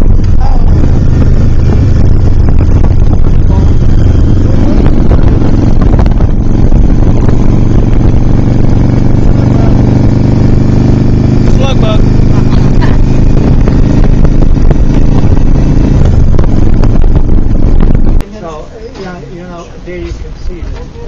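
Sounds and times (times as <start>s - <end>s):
wind noise on microphone: 0.0s - 18.3s
motorcycle engine running: 0.0s - 18.7s.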